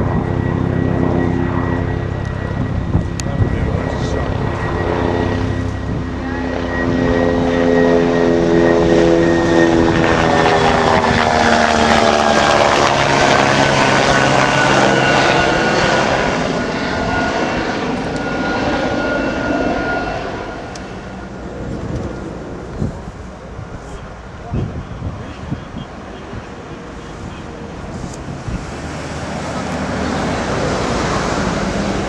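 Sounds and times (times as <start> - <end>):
helicopter flying overhead: 0.0 - 32.0.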